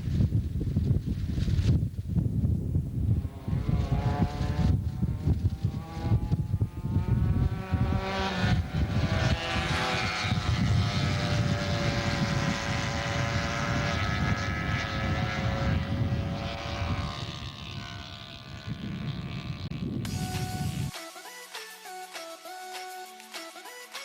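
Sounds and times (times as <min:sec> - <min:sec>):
motorcycle engines buzzing: 0:00.0 - 0:20.9
wind rumble on microphone: 0:00.0 - 0:20.9.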